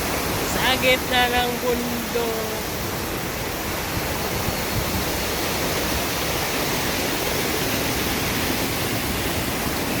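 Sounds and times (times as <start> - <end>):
water rushing and churning: 0.0 - 10.0.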